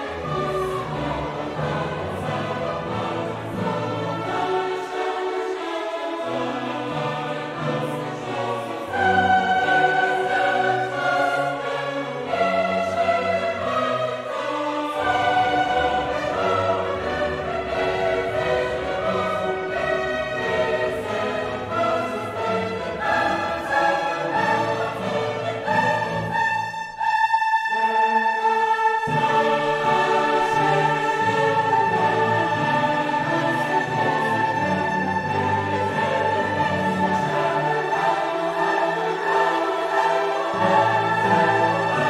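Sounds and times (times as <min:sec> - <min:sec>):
choir singing held notes: 0:00.0 - 0:42.0
orchestra playing: 0:00.0 - 0:42.0.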